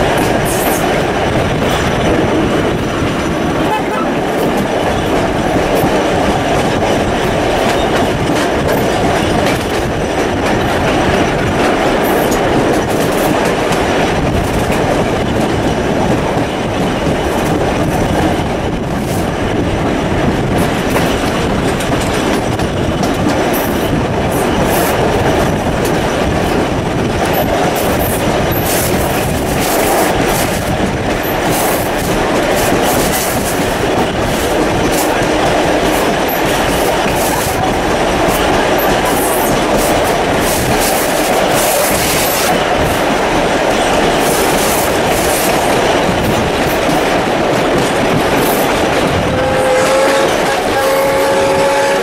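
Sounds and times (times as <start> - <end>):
wheels clicking over rail joints: 0.0 - 51.0
train carriage rumble: 0.0 - 52.0.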